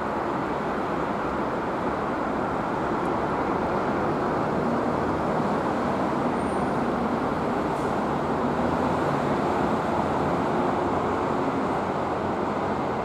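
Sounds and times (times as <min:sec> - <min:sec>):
railway noise: 0:00.0 - 0:13.0
traffic rumble: 0:00.0 - 0:13.0.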